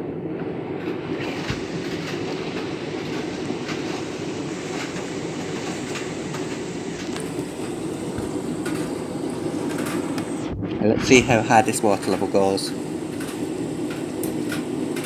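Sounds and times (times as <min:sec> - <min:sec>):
washing machine filling with water: 0:00.6 - 0:10.5, 0:11.2 - 0:15.0.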